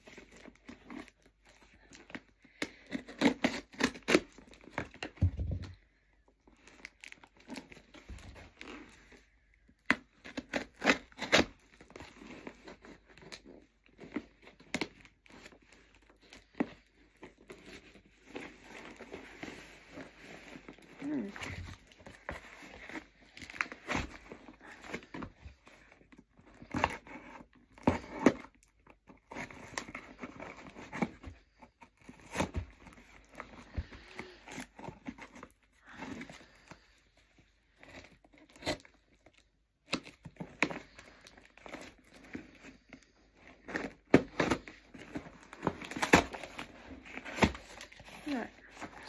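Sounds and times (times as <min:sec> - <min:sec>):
packaging tearing and crinkling: 0:00.0 - 0:05.7, 0:06.5 - 0:49.0.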